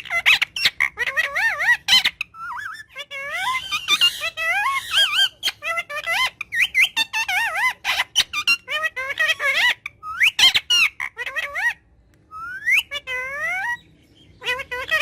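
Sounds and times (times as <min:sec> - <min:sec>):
parrot chattering: 0:00.0 - 0:15.0.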